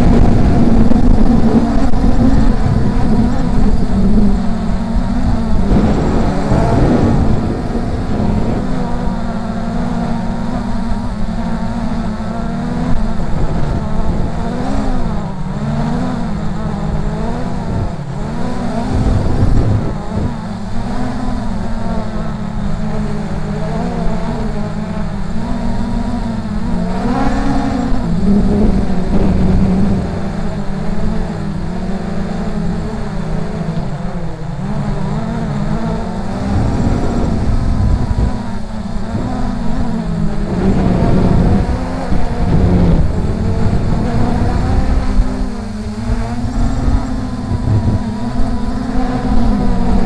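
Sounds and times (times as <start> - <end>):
gusty wind noise: 0.0 - 50.0
quadcopter motors humming: 0.0 - 50.0.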